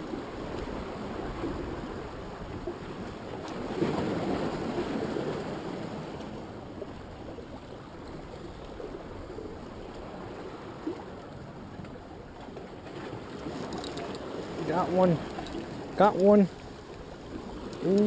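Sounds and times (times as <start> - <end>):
ocean surf washing on beach: 0.0 - 18.0.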